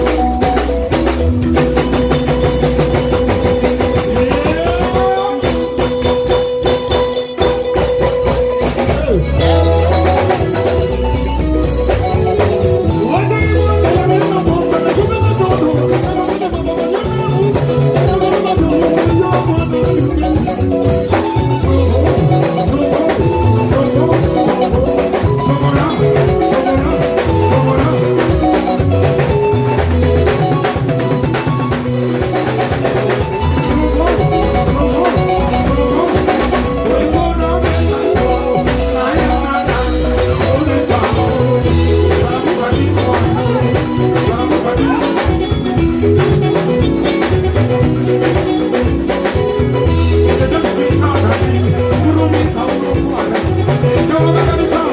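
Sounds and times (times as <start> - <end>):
band playing rumba: 0.0 - 54.9.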